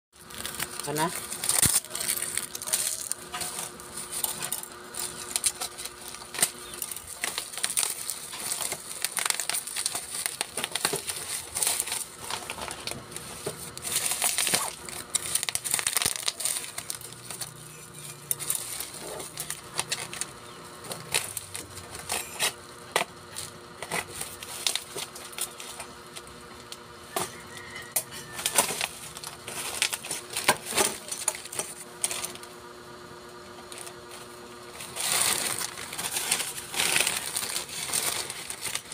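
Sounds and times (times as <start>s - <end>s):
bubble wrap crinkling and crackling: 0.2s - 38.9s.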